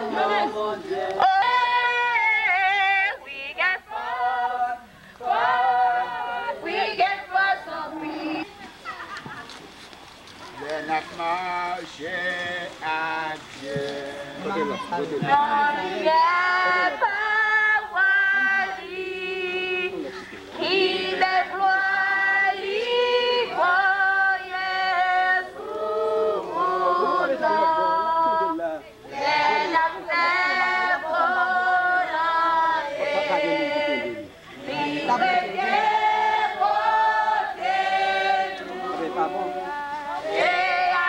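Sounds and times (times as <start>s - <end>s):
congregation singing a hymn: 0.0s - 8.5s, 10.6s - 41.0s.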